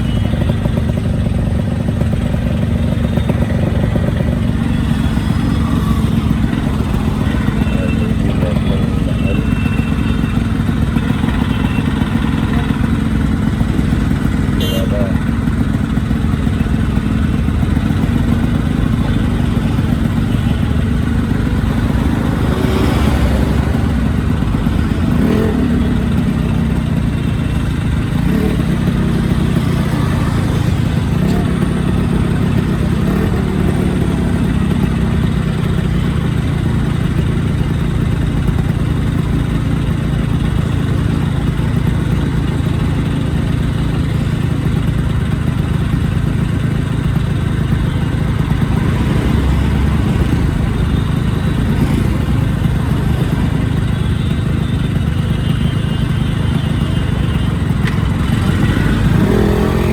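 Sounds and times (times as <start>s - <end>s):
two-stroke motorcycle engine running: 0.0s - 59.9s.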